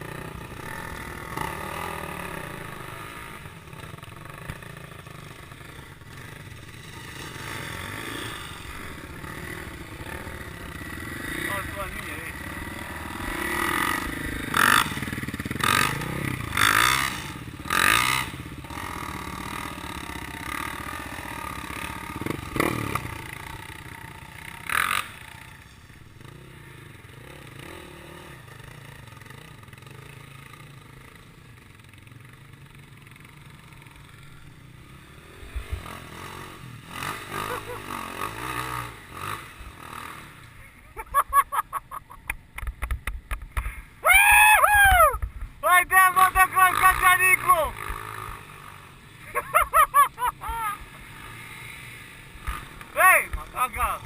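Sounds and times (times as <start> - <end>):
motocross motorcycle engines: 0.0 - 54.0.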